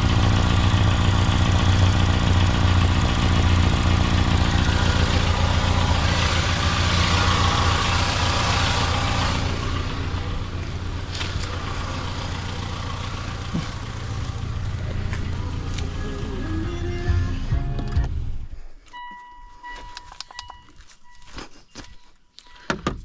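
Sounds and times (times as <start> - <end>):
car engine rumbling: 0.0 - 21.3.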